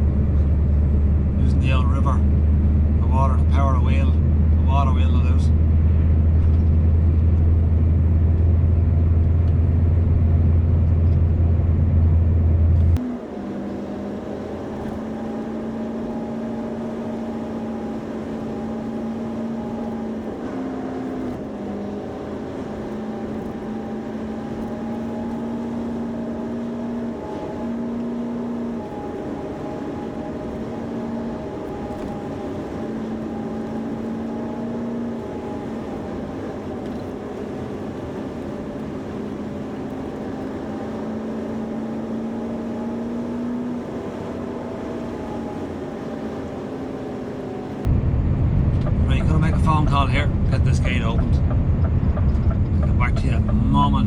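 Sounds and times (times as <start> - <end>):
truck engine low rumble: 0.0 - 54.0.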